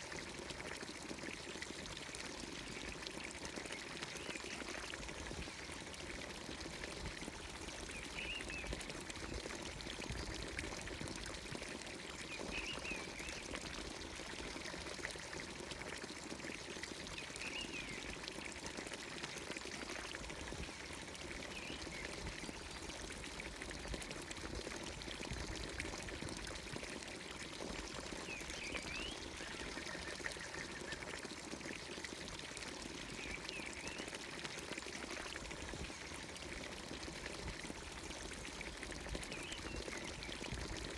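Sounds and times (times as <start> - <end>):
fountain water pouring into trough: 0.0 - 40.9.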